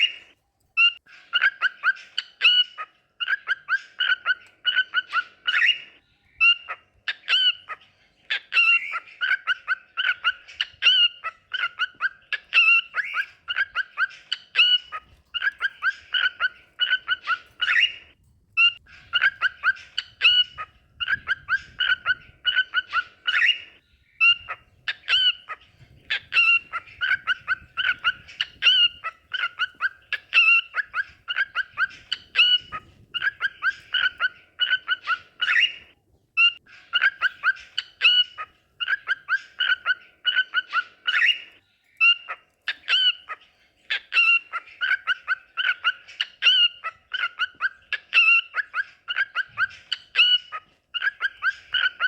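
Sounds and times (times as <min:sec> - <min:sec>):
cockatiels chirping and whistling: 0:08.5 - 0:23.6, 0:24.2 - 0:52.0.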